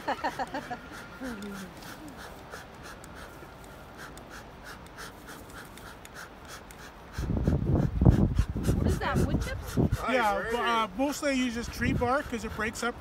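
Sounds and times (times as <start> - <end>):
bellows puffing: 0.0 - 13.0.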